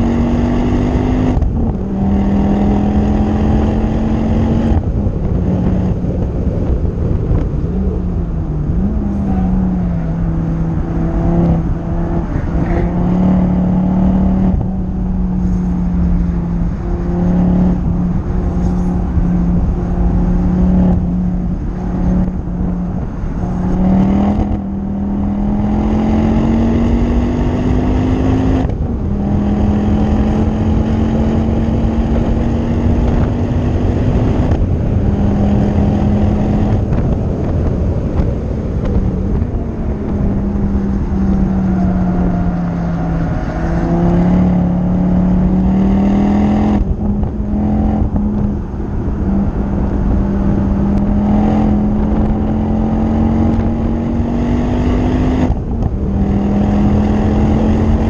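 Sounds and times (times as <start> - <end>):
car engine pulling hard: 0.0 - 58.0
wind noise: 0.0 - 58.0.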